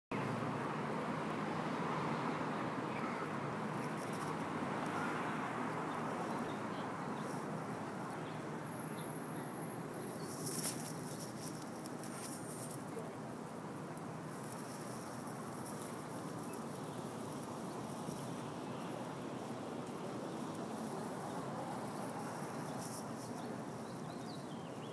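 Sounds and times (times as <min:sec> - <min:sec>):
distant traffic hum: 0:00.1 - 0:24.9.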